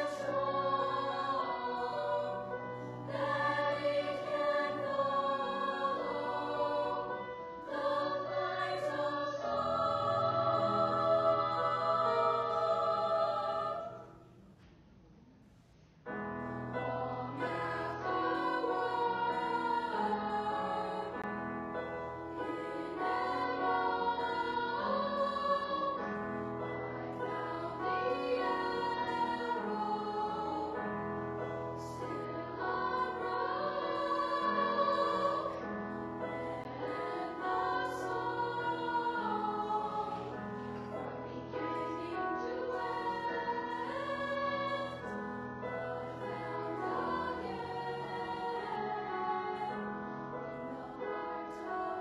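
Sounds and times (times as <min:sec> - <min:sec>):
choir singing: 0:00.0 - 0:14.3, 0:16.6 - 0:52.0
piano accompaniment: 0:00.0 - 0:14.3, 0:16.1 - 0:52.0.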